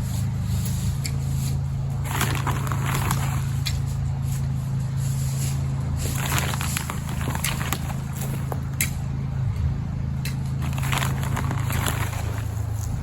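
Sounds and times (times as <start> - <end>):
hands scratching soil: 0.0 - 8.9, 10.6 - 13.0
steady low hum: 0.0 - 13.0.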